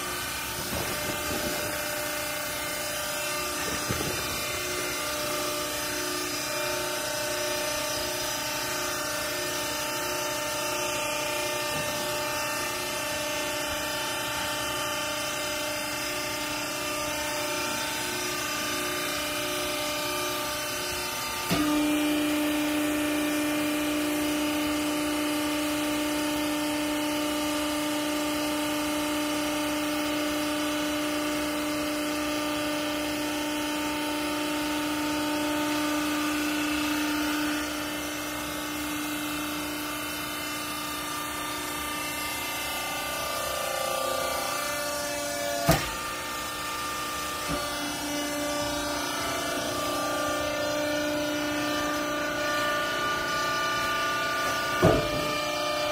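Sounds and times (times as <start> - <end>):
hydraulic pump whine: 0.0 - 55.9
machine hum: 0.0 - 55.9.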